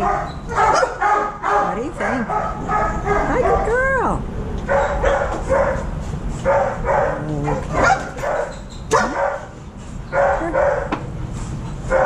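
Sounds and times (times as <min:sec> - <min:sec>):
dog barking: 0:00.0 - 0:04.0, 0:04.6 - 0:11.0.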